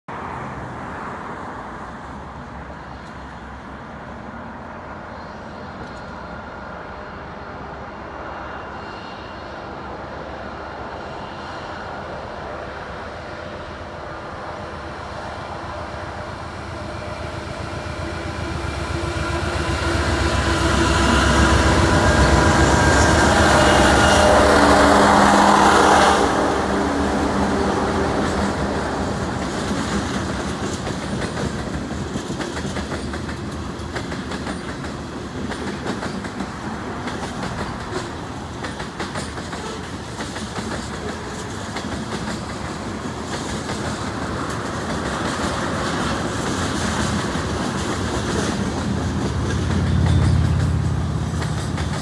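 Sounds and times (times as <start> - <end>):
diesel locomotive engine rumble: 0.2 - 52.0.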